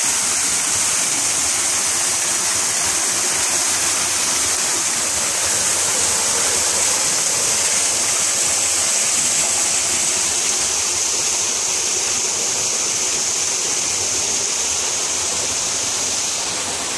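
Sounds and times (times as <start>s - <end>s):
creek water running over rocks: 0.0s - 16.9s.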